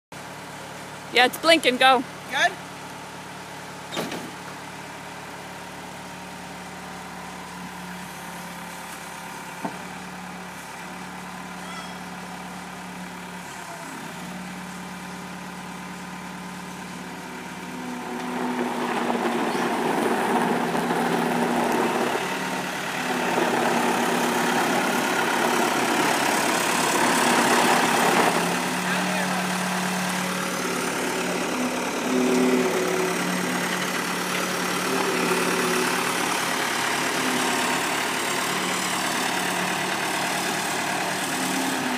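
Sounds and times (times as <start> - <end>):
diesel engine running: 0.1 - 41.9.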